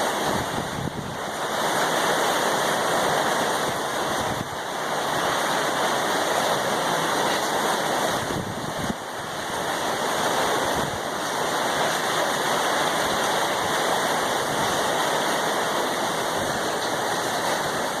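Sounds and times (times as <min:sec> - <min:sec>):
heavy rain and wind: 0:00.0 - 0:18.0.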